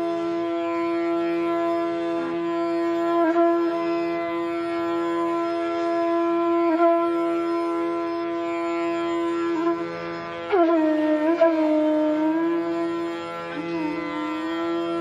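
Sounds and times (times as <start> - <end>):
bamboo flute playing: 0.0 - 15.0.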